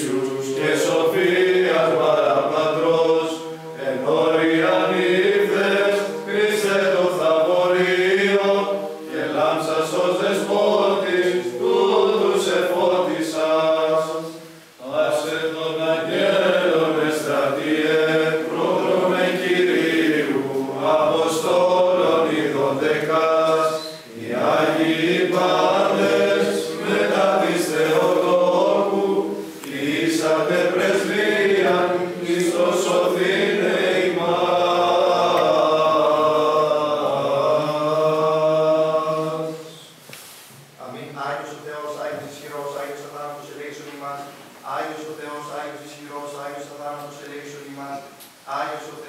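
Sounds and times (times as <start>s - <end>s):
ornamented chant melody: 0.0s - 40.1s, 40.8s - 49.0s.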